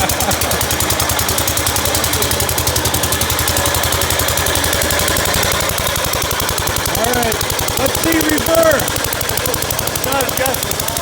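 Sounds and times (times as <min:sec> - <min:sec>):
garden tractor engine putting: 0:00.0 - 0:11.0.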